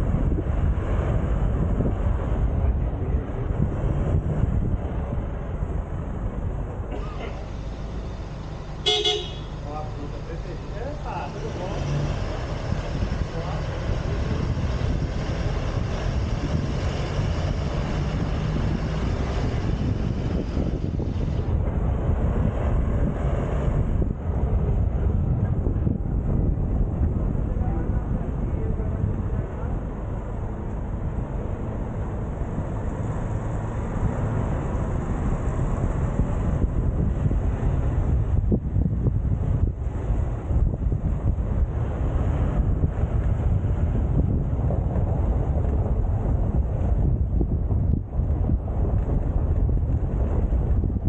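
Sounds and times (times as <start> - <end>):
car rumbling on cobblestones: 0.0 - 51.0
wind buffeting microphone: 0.0 - 51.0.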